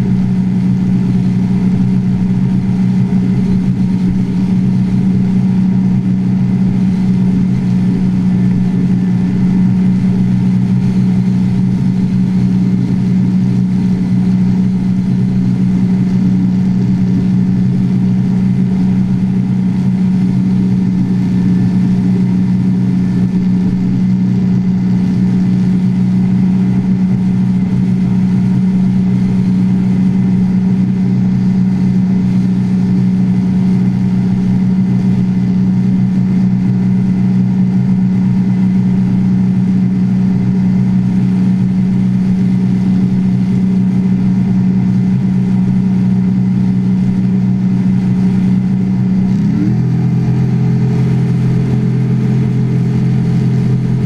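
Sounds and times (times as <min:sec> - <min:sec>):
boat engine running steadily: 0:00.0 - 0:54.0.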